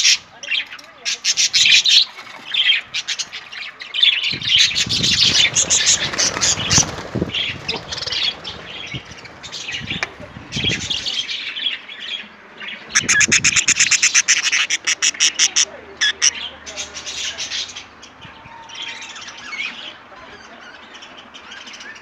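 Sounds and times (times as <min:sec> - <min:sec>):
budgerigars chirping and squawking: 0:00.0 - 0:22.0.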